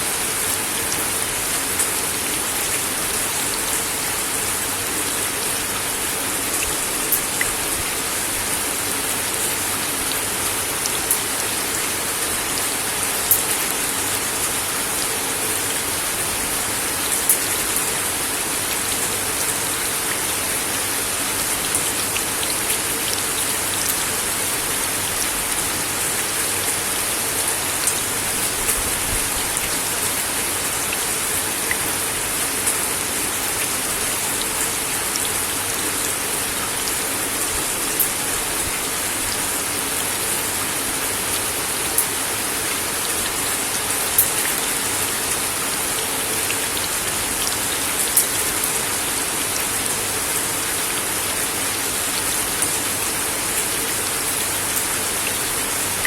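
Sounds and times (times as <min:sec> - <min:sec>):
rain on a wooden deck: 0:00.0 - 0:56.0.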